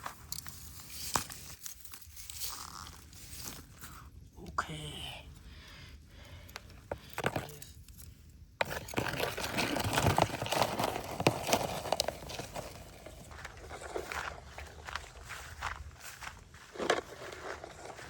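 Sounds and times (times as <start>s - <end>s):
forest debris rustling and crackling: 0.0s - 4.1s, 7.3s - 18.0s.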